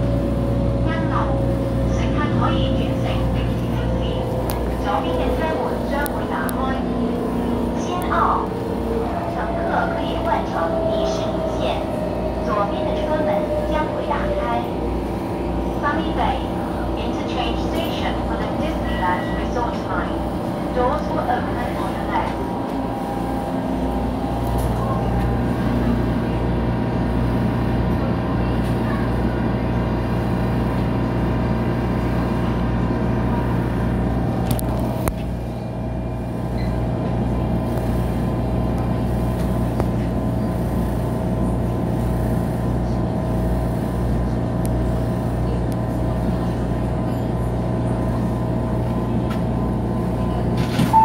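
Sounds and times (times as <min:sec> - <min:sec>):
train running hum: 0:00.0 - 0:51.0.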